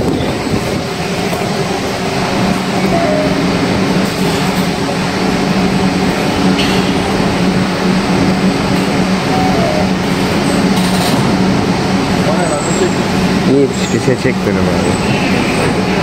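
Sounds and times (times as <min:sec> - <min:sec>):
train equipment humming: 0:00.0 - 0:16.0.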